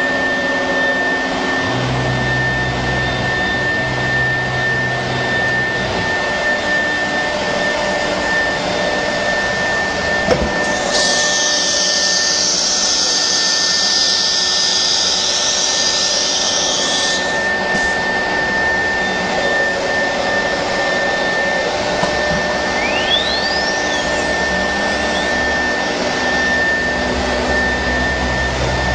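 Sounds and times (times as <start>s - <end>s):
cnc router spindle whine: 0.0s - 28.9s.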